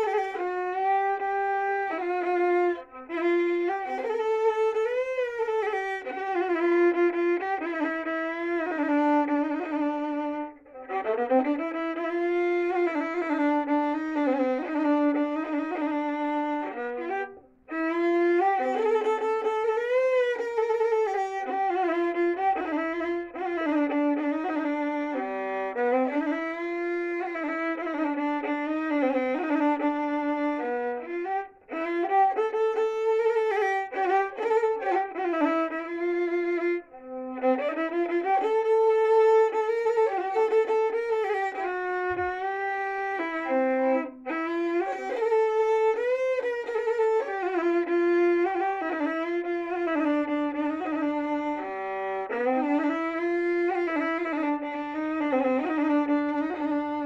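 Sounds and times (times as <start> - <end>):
solo violin melody: 0.0 - 57.0.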